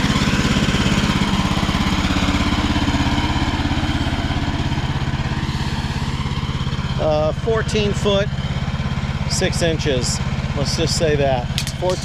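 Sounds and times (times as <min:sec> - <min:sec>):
gasoline engine idling: 0:00.0 - 0:12.0.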